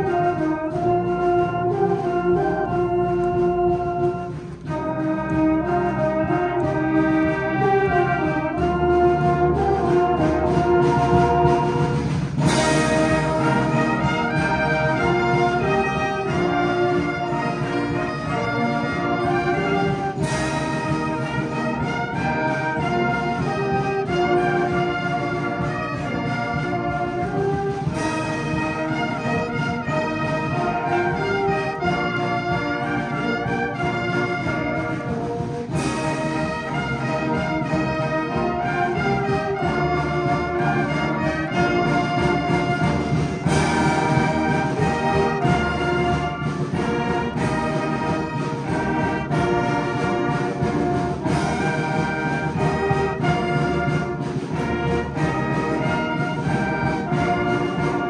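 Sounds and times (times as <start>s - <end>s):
brass ensemble playing: 0.0s - 58.0s.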